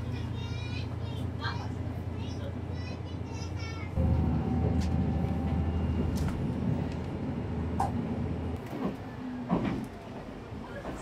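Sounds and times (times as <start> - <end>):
railcar engine drone: 0.0 - 11.0.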